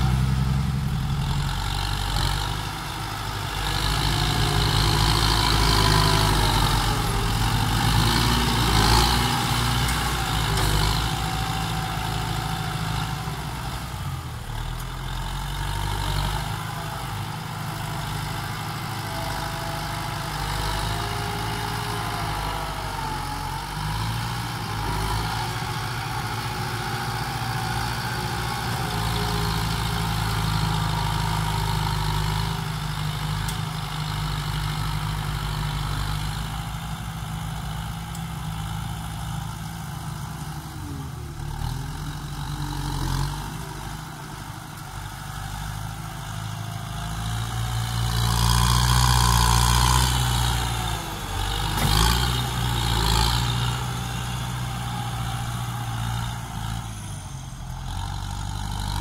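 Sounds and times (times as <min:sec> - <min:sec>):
dozer blade pushing soil: 0:00.0 - 0:36.4, 0:38.0 - 0:59.0
tractor diesel engine running: 0:00.0 - 0:59.0.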